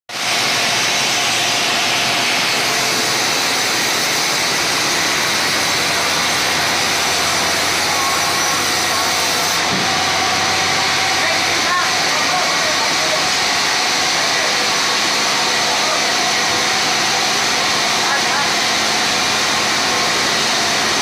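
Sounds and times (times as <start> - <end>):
sawmill machinery running: 0.1 - 21.0.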